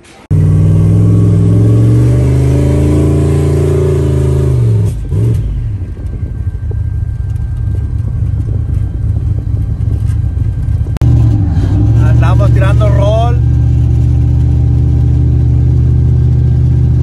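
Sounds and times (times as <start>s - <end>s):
exhaust noise: 0.0s - 17.0s
truck engine accelerating: 0.0s - 17.0s.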